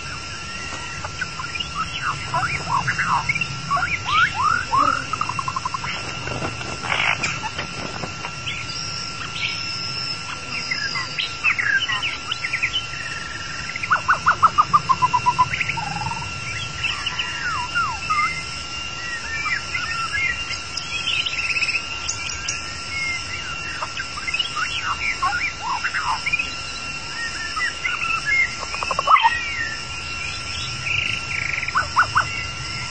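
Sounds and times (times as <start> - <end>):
bird singing whistles and trills: 0.0 - 6.2, 6.8 - 32.9
steady high drone: 0.0 - 32.9.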